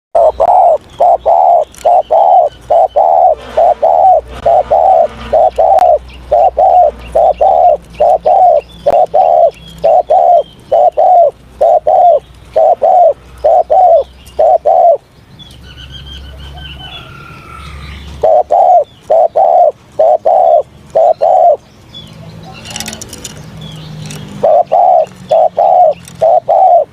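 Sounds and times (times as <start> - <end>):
dove cooing: 0.2 - 15.0, 16.5 - 21.6, 22.4 - 23.3, 24.1 - 26.9.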